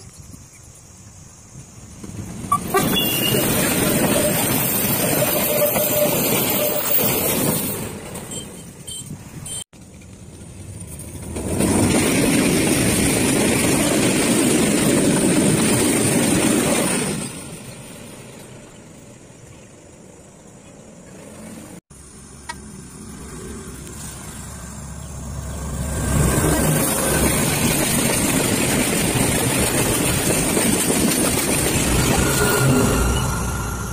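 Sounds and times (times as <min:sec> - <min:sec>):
diesel trains passing: 0:01.2 - 0:33.9
freight train rolling by: 0:01.2 - 0:33.9.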